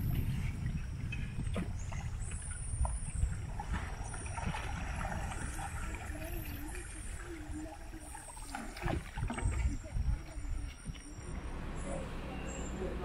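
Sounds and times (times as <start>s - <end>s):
faint wavering tone: 0.0s - 13.0s
low uneven rumble: 0.0s - 13.0s
river water trickling and gurgling: 0.0s - 13.0s.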